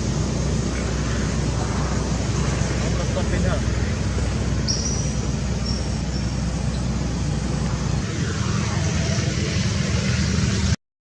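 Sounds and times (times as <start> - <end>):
road traffic rumble: 0.0 - 10.8.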